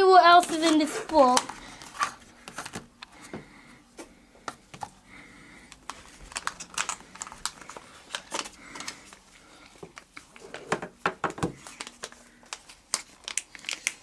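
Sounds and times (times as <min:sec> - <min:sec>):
packaging clicks and rustles: 0:00.3 - 0:03.3, 0:05.6 - 0:14.0.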